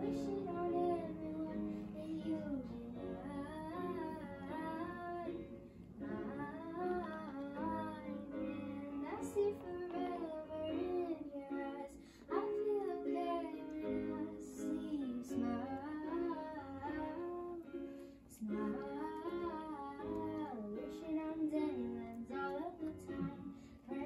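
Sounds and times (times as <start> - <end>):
electronic keyboard accompaniment: 0.0 - 24.0
person singing: 0.0 - 24.0.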